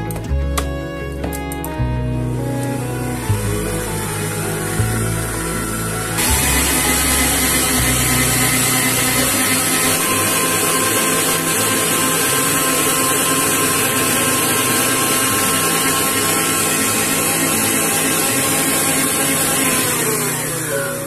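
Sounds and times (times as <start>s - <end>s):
electric mixer motor running: 2.3s - 21.0s.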